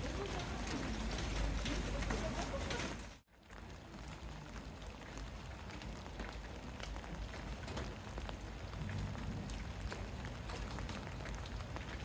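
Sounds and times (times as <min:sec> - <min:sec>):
rain drops ticking: 0:00.0 - 0:12.0.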